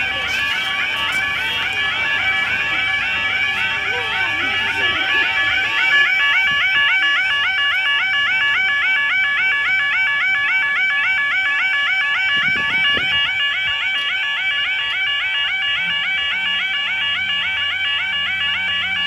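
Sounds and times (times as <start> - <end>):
warbling crossing alarm: 0.0 - 19.0.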